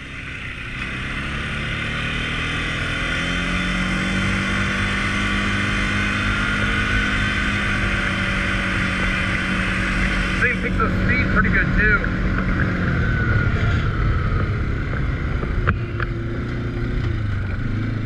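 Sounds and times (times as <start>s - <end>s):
quad bike engine droning: 0.0s - 18.0s.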